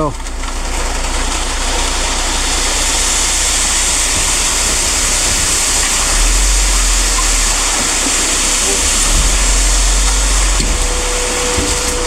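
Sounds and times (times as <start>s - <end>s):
truck engine hum: 0.0s - 12.0s
concrete sliding down chute: 2.1s - 12.0s.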